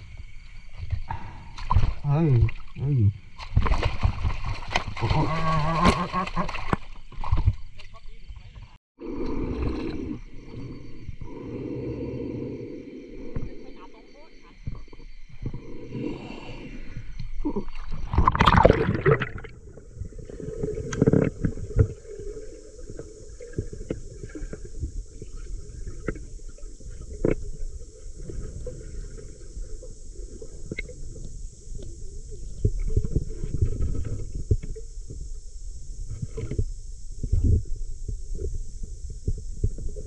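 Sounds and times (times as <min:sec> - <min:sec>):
muffled underwater rumbling: 0:00.0 - 0:40.0.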